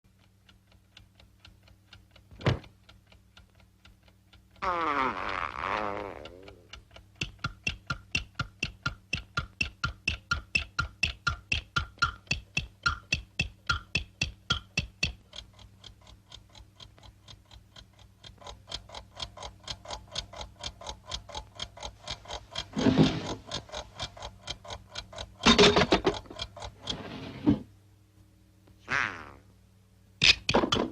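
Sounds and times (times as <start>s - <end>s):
clock ticking: 0.1s - 27.5s, 30.1s - 30.9s.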